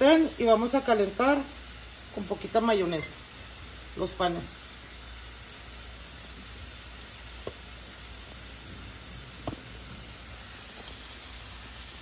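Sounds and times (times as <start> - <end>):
food sizzling in pans: 0.0 - 12.0.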